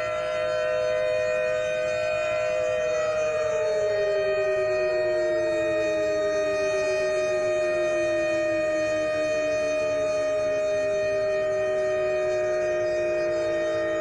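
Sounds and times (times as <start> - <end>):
steady warning siren: 0.0 - 14.0
warning siren winding down: 0.0 - 14.0.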